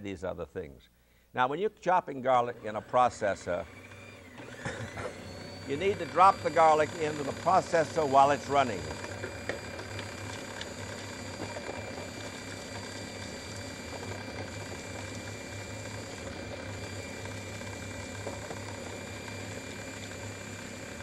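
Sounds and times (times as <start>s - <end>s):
food processor motor running: 2.4s - 21.0s.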